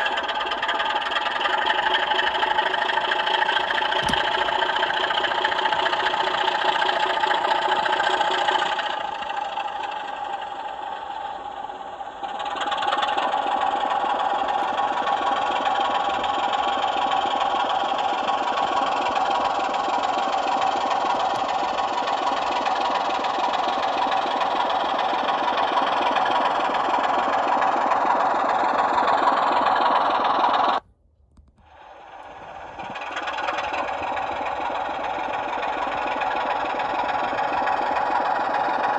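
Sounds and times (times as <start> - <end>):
model locomotive engine sound from speaker: 0.0 - 38.9.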